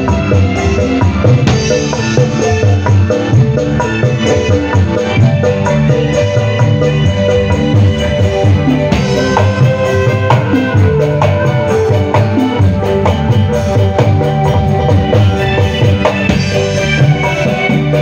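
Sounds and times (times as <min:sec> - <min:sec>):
hand drums: 0:00.0 - 0:18.0
live band music: 0:00.0 - 0:18.0.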